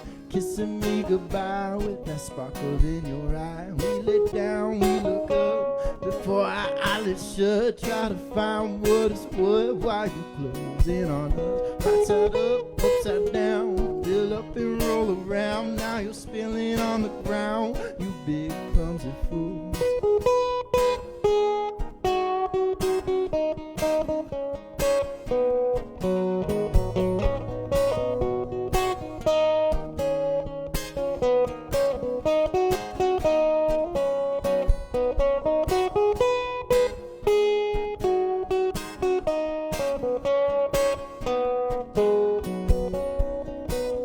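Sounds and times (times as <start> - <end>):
acoustic guitar playing: 0.0 - 44.0.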